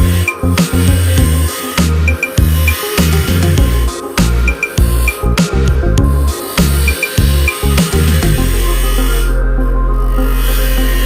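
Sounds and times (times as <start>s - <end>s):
electronic music with pulsing bass: 0.0s - 11.0s.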